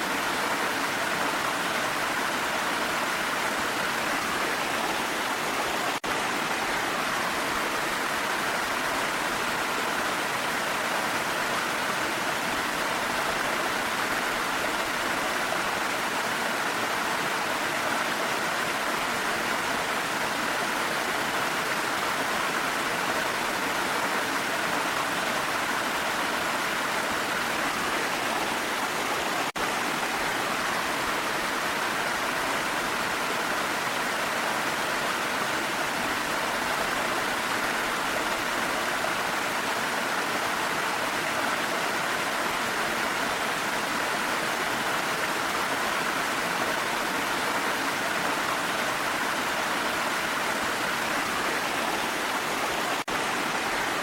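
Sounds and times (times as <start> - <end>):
rush of falling water: 0.0 - 54.0.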